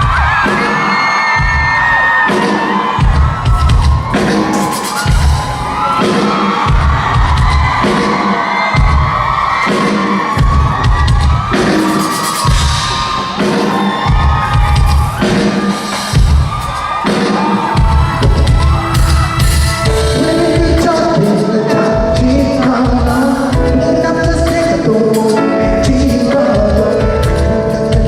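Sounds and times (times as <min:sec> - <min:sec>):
amplified pop music: 0:00.0 - 0:28.0
crowd screaming and cheering: 0:00.0 - 0:28.0
heavy bass beat: 0:00.0 - 0:28.0.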